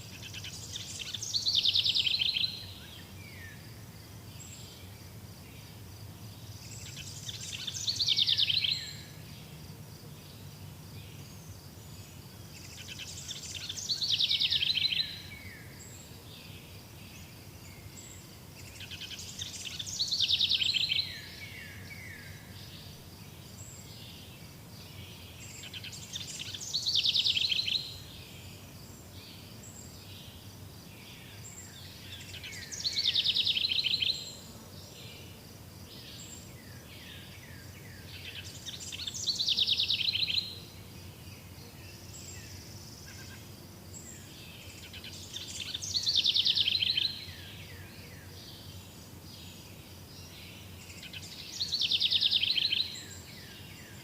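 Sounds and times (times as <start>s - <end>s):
songbird trilling song: 0.0s - 9.6s, 10.3s - 54.0s
faint bird chirps: 6.3s - 9.5s, 10.2s - 30.4s, 31.0s - 35.3s, 35.9s - 54.0s.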